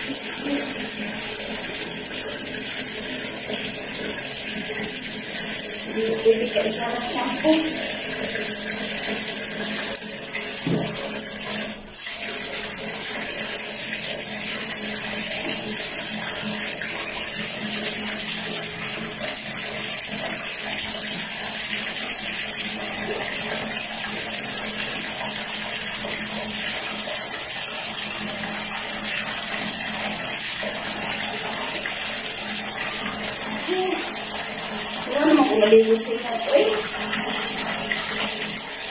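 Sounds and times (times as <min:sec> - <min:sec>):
tap water running into bucket: 0:00.0 - 0:38.9.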